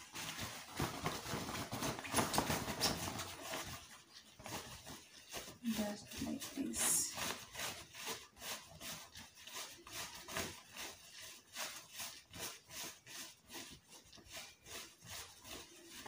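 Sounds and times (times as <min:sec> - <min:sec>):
cloth rustling: 0:00.0 - 0:16.0.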